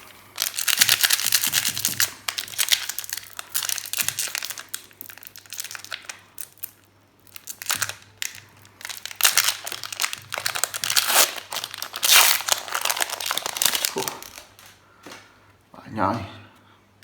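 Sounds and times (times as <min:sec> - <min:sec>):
foil wrapper crinkling and tearing: 0:00.0 - 0:14.8.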